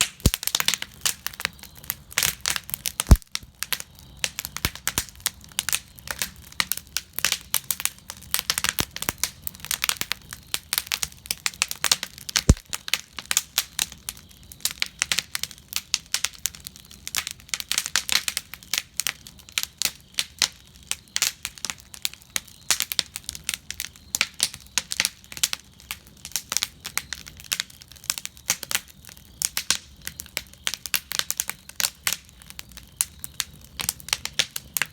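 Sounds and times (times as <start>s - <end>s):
fire crackling: 0.0s - 34.9s
sharp fire cracks: 0.0s - 34.9s.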